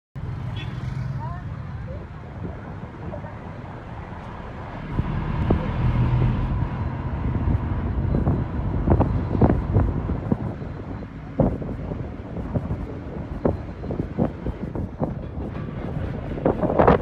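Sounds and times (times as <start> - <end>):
bus engine and road rumble: 0.2 - 17.0
wind on microphone: 1.8 - 17.0.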